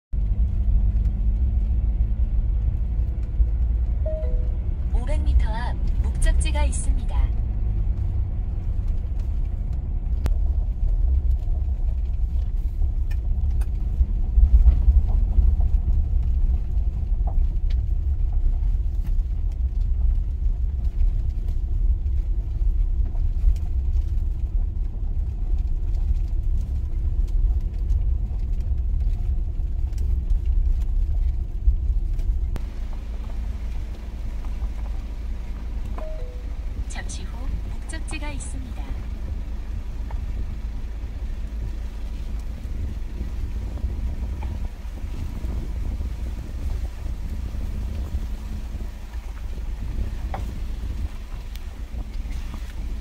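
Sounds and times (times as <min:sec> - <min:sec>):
car driving slowly: 0:00.2 - 0:53.0.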